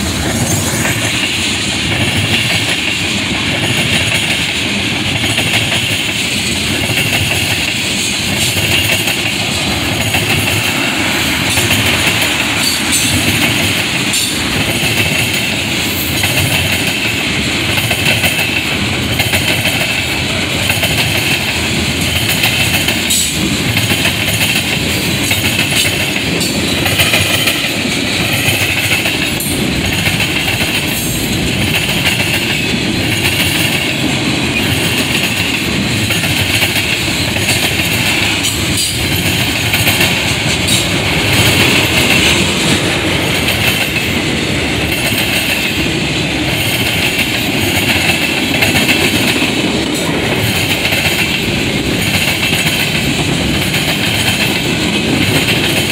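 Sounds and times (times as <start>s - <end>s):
freight train rolling past: 0.0s - 55.9s
steel wheels rattling on rails: 0.0s - 55.9s.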